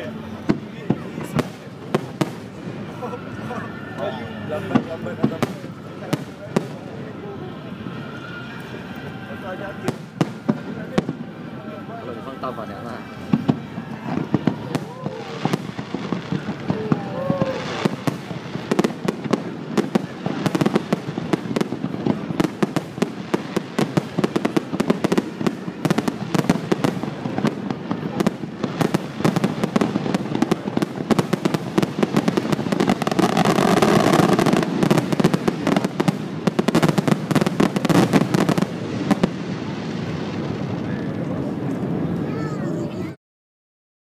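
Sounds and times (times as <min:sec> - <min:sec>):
fireworks bursting and crackling: 0:00.0 - 0:43.2.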